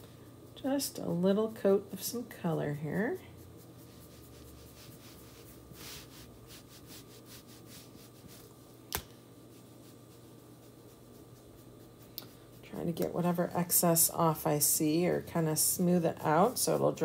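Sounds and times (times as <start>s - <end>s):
paintbrush scratchy strokes: 0.6s - 8.7s, 9.4s - 17.0s.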